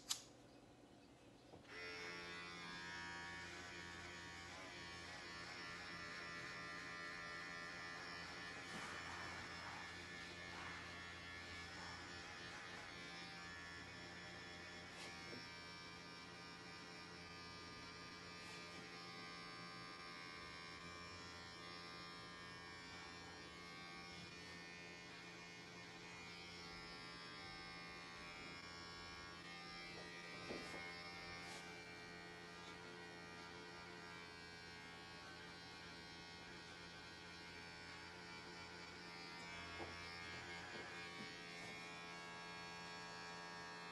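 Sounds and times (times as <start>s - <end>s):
electric hair clippers buzzing: 1.6s - 43.9s.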